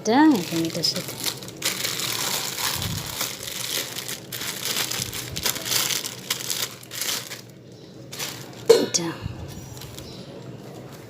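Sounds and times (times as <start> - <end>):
packaging crinkling and rustling: 0.2 - 11.0.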